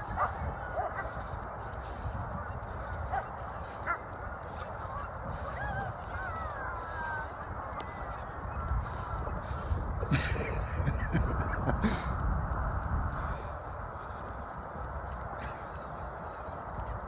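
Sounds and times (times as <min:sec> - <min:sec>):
distant birds calling: 0:00.0 - 0:17.0
low wind rumble: 0:00.0 - 0:17.0.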